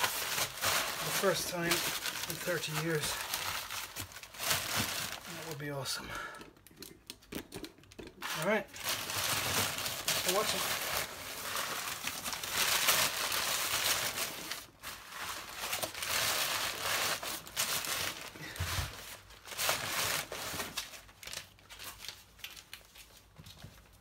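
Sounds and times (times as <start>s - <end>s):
crumpled newspaper rustling: 0.0s - 6.0s, 8.2s - 24.0s.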